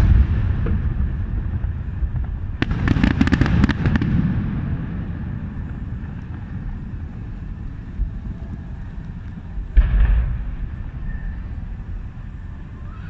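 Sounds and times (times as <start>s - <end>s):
fireworks crackling pops: 0.0s - 13.0s
low rumble: 0.0s - 13.0s.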